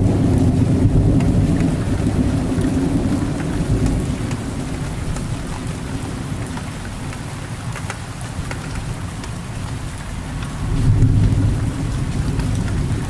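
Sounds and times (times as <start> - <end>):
thunder rumble: 0.0 - 7.3, 8.4 - 13.0
rain falling: 0.0 - 13.0.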